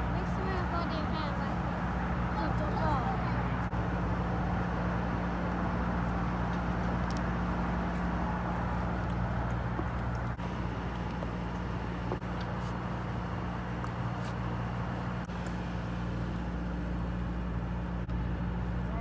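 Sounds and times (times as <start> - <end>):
boat engine droning: 0.0 - 4.5, 7.3 - 19.0.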